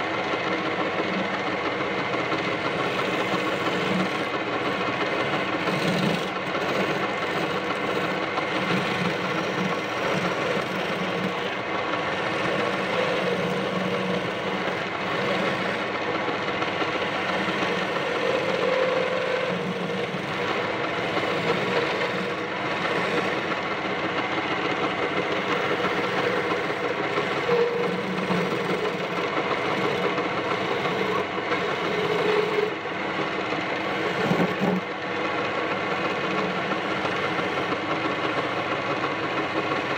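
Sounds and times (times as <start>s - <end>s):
chisel scraping spinning wood: 0.0s - 39.9s
wood lathe running: 0.0s - 39.9s.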